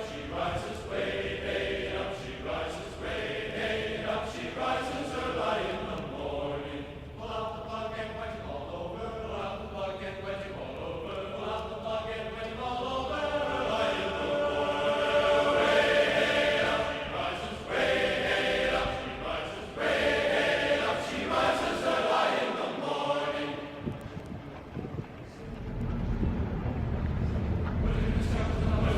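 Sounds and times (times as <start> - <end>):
choir singing long notes: 0.0 - 24.2, 27.6 - 28.9.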